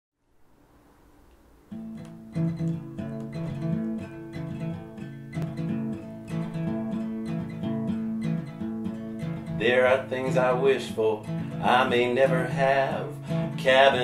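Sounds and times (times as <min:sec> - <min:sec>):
acoustic guitar strumming: 0:01.6 - 0:14.0.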